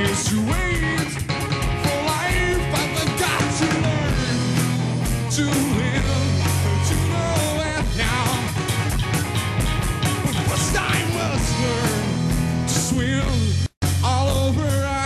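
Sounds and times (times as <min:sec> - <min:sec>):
person singing: 0:00.0 - 0:08.6, 0:10.2 - 0:15.0
rock band playing: 0:00.0 - 0:15.0
steady drum beat: 0:00.0 - 0:15.0.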